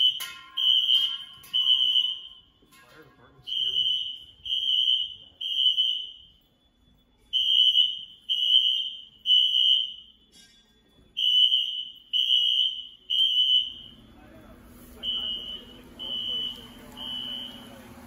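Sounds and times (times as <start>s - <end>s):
fire alarm beeps: 0.0s - 18.0s.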